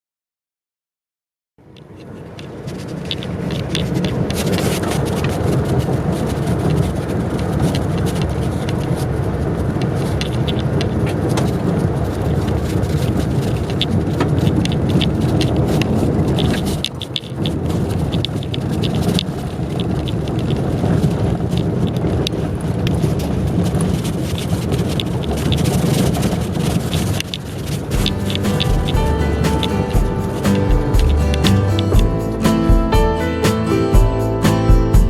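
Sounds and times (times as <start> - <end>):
gravel clicks under tyres: 1.6 - 32.4
road and tyre rumble: 1.6 - 35.0.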